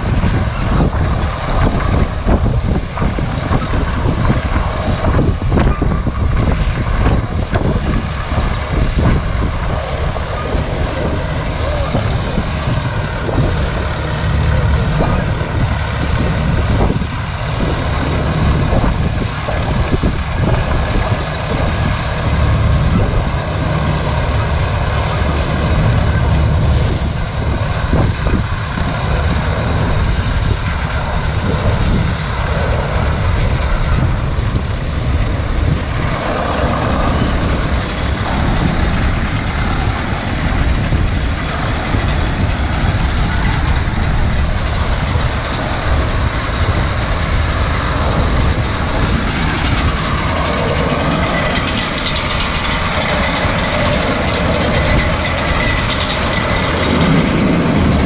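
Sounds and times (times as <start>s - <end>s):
combine engine and threshing machinery: 0.0s - 58.0s
crawler tractor running: 0.0s - 58.0s.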